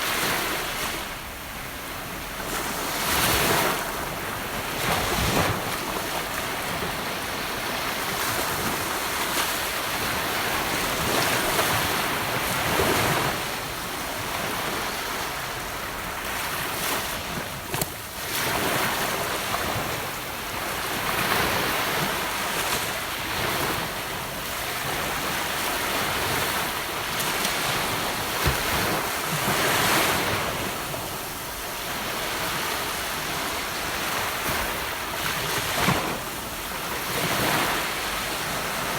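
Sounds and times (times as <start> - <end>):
ocean waves breaking on beach: 0.0 - 38.9
surf crackles: 2.5 - 36.3.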